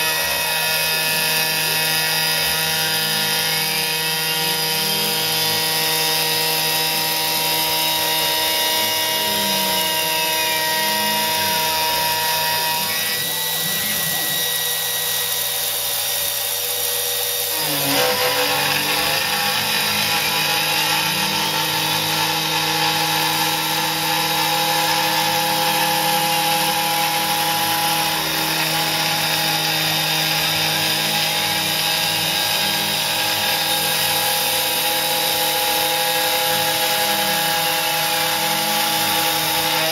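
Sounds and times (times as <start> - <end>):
metal cutting noise: 0.0 - 39.9
router spindle whining: 0.0 - 39.9.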